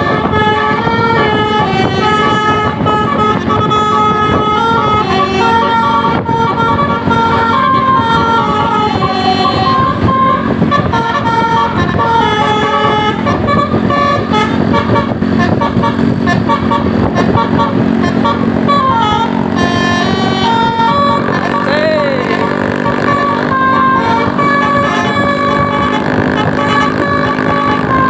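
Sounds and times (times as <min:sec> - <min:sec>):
low engine drone: 0:00.0 - 0:28.0
musical air horn tune: 0:00.0 - 0:28.0.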